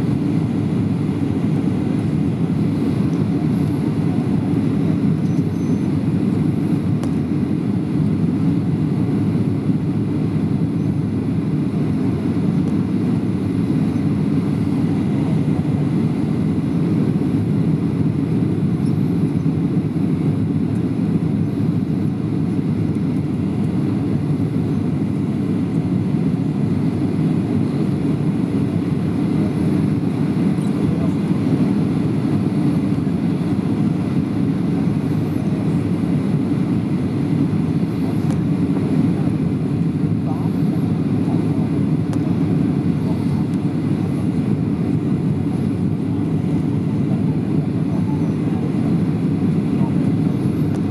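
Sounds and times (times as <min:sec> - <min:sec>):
aircraft cabin engine roar: 0:00.0 - 0:50.9.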